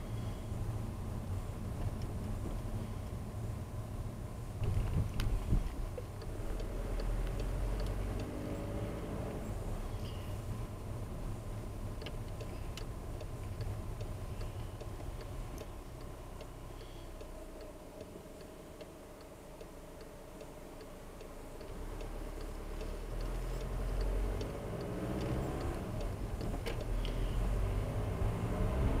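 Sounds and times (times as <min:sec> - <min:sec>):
car engine and road noise: 0:00.0 - 0:29.0
turn signal ticking: 0:00.0 - 0:29.0.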